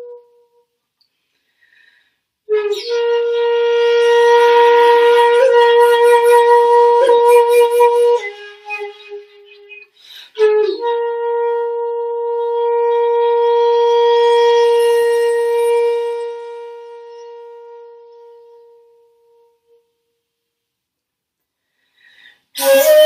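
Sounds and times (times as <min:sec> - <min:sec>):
bamboo flute long note: 0:00.0 - 0:00.8, 0:02.5 - 0:20.0, 0:22.5 - 0:23.0.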